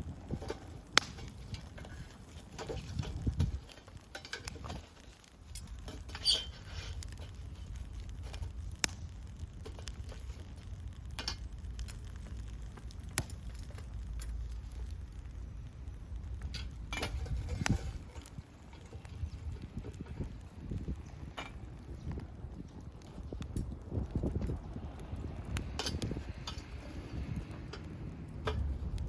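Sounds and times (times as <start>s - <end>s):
low steady rumble: 0.0s - 3.7s, 5.4s - 29.0s.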